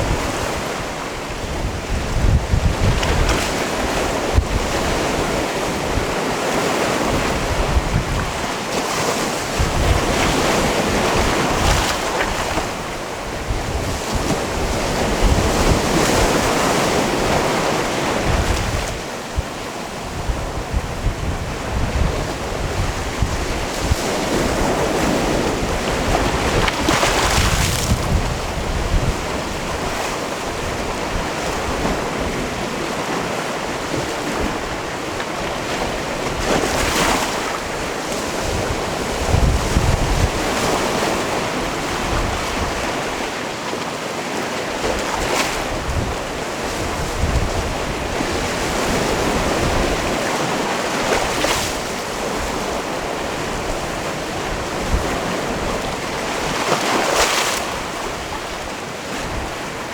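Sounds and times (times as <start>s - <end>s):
wind buffeting microphone: 0.0s - 43.4s, 44.8s - 59.9s
sea waves washing onto rocky shore: 0.0s - 59.9s.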